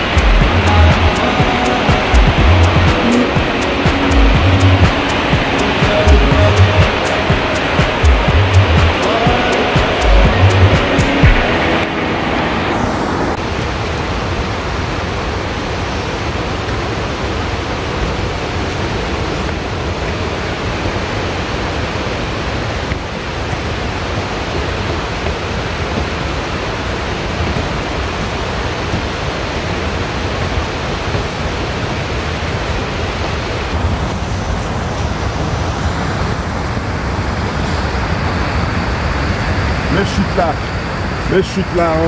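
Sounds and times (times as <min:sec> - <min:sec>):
river rapids and waterfall rushing: 0:00.0 - 0:42.0.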